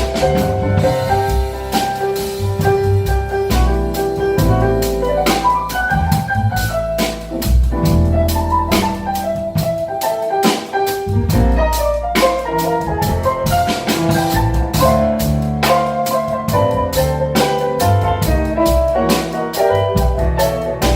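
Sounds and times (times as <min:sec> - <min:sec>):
low bass notes: 0:00.0 - 0:09.9, 0:11.0 - 0:20.9
drum kit with cymbals: 0:00.0 - 0:20.9
piano lines: 0:00.0 - 0:20.9.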